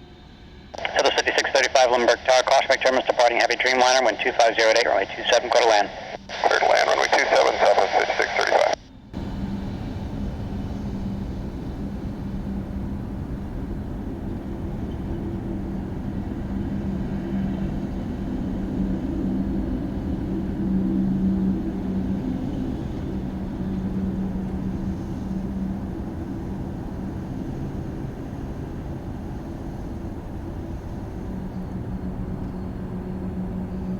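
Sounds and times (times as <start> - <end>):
jet engines at takeoff power: 0.0 - 33.9.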